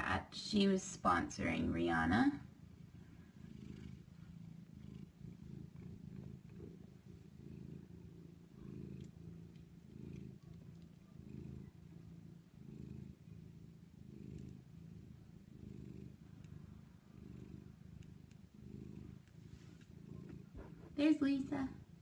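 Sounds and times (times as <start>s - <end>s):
cats purring: 0.0s - 22.0s.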